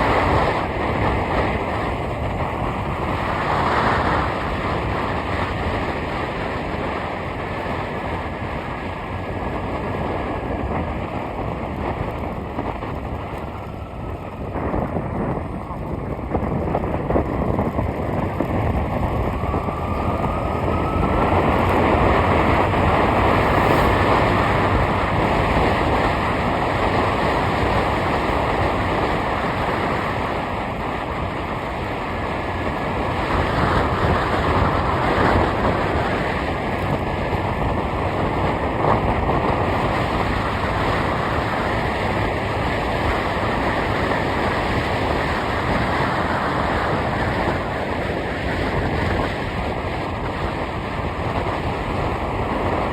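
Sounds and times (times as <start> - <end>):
road and wind rush: 0.0 - 52.9.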